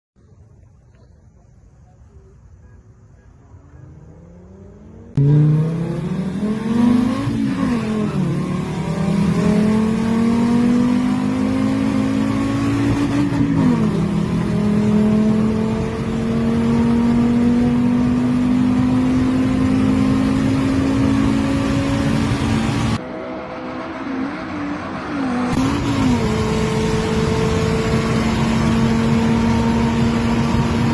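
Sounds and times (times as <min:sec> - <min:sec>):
car engine accelerating: 0:03.5 - 0:30.9.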